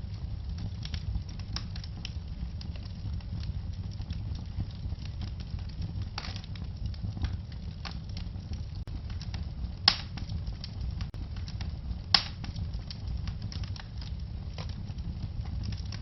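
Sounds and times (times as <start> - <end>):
wood fire crackling: 0.0 - 16.0
loud sharp pops from fire: 0.1 - 16.0.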